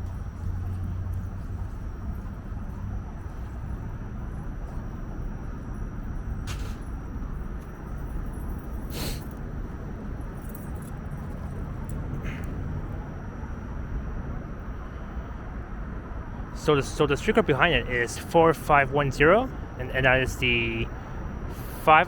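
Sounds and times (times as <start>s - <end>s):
streetcars and traffic rumble: 0.0s - 22.0s.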